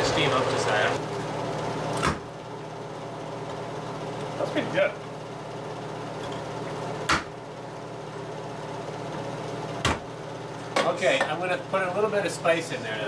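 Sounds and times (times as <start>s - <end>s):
kitchen fan humming: 0.0s - 13.0s.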